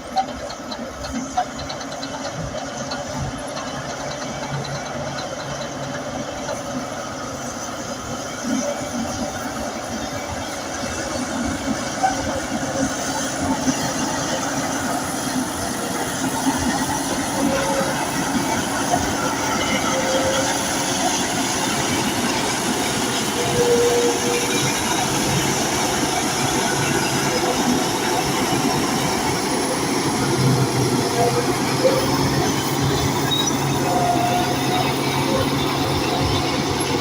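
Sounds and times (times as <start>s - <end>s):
diesel engine under load: 0.0s - 37.0s
steel tracks clanking and squeaking: 0.0s - 37.0s.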